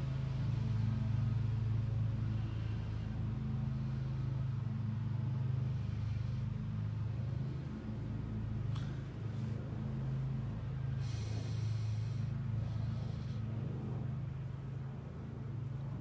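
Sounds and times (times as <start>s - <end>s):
low mechanical motor hum: 0.0s - 16.0s.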